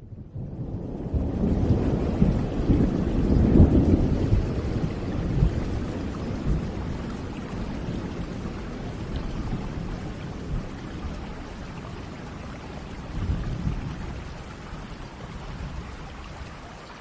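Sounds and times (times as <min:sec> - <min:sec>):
low rolling thunder: 0:00.0 - 0:16.8
steady rain: 0:00.0 - 0:17.0.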